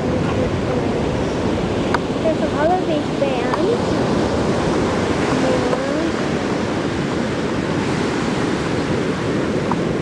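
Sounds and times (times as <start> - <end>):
ocean surf breaking: 0.0 - 10.0
wind on microphone: 0.0 - 10.0.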